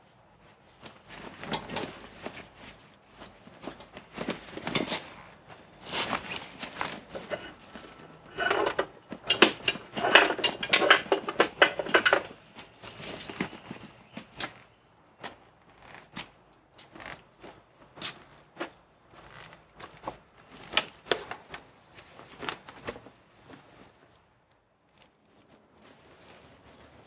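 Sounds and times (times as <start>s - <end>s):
bag rustling and scraping: 0.2s - 27.0s.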